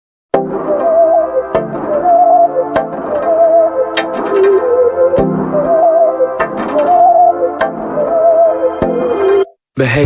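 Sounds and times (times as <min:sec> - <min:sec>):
song with wavering melody over beat: 0:00.4 - 0:09.5.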